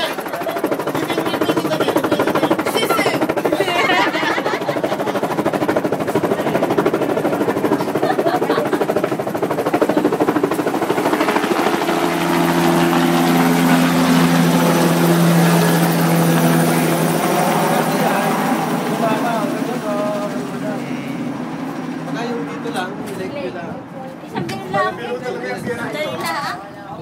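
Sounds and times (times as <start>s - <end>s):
steady whine: 0.0s - 25.2s
helicopter rotor beating: 0.0s - 26.9s.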